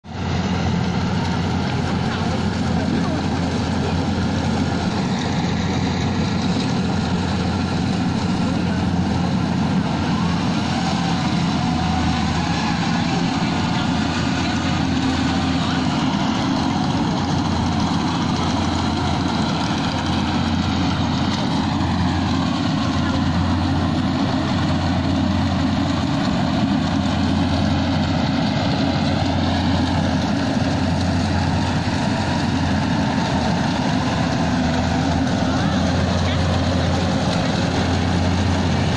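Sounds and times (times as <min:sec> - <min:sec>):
harvester engine humming: 0:00.0 - 0:38.9.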